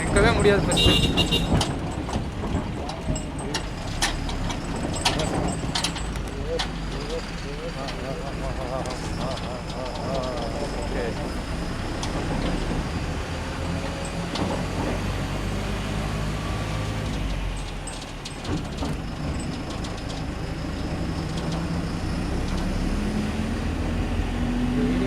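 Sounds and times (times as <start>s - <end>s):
sharp rattling clicks: 0.0s - 16.0s, 16.6s - 22.9s
truck diesel engine running: 0.0s - 25.0s.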